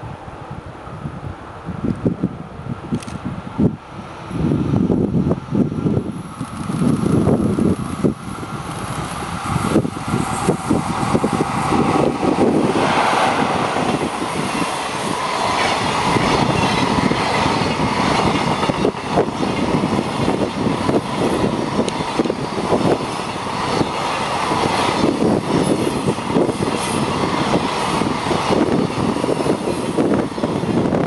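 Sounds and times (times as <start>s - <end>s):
freight train rolling past: 3.5s - 31.0s.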